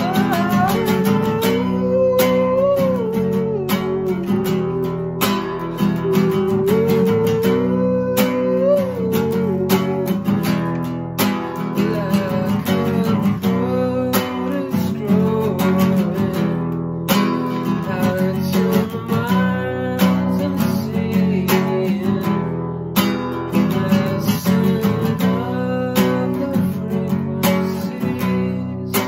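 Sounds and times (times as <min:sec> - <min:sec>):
man singing: 0:00.0 - 0:10.7, 0:11.4 - 0:29.0
acoustic guitar strumming: 0:00.0 - 0:29.0.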